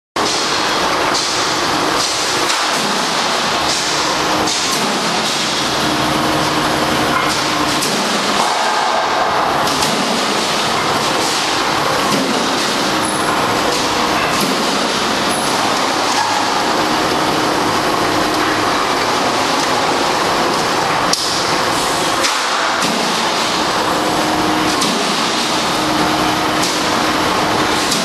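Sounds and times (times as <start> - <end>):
roll forming line running: 0.2 - 28.0.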